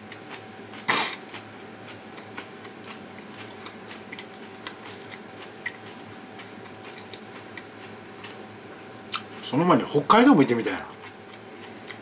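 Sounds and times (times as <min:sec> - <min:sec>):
person chewing food: 0:00.0 - 0:09.4, 0:10.9 - 0:12.0
faint steady hum: 0:00.0 - 0:12.0.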